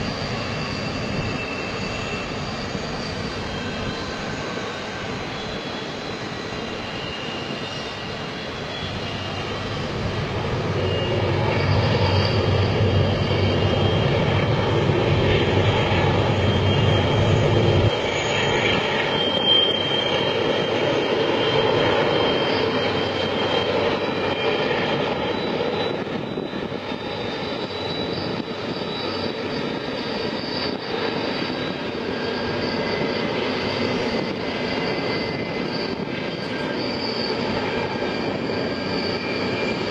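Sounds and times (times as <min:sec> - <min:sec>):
train rolling past: 0:00.0 - 0:39.9.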